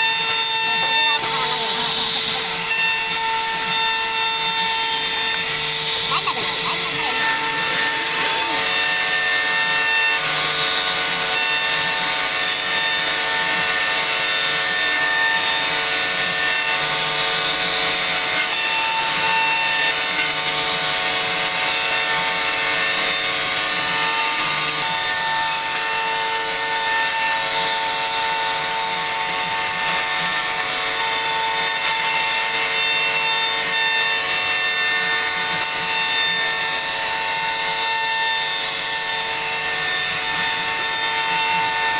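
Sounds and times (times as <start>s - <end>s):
cutter rasping in wood: 0.0s - 41.9s
router spindle whine: 0.0s - 41.9s.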